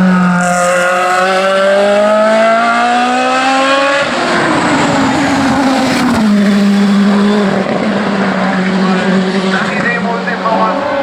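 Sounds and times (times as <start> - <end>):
race car engine at full throttle: 0.0 - 11.0.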